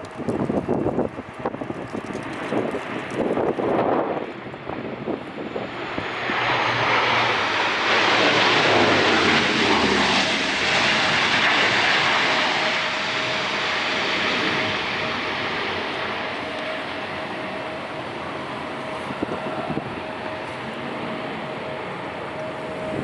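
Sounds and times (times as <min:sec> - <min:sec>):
airliner engines passing: 0:00.0 - 0:23.0
wind buffeting microphone: 0:00.0 - 0:23.0.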